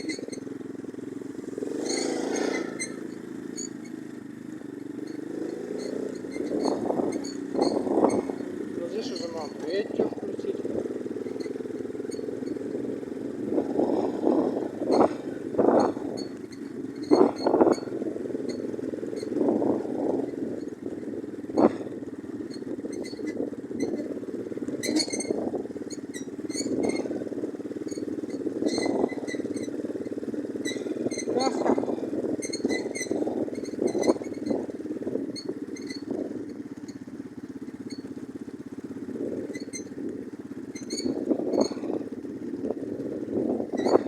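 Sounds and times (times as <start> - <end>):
moped engine surging: 0.0 - 44.0
rattling ticks: 0.0 - 44.0.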